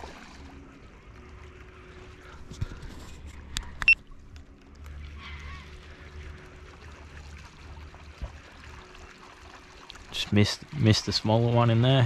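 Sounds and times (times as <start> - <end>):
light water noise: 0.0 - 12.0
steady low hum: 0.0 - 12.0.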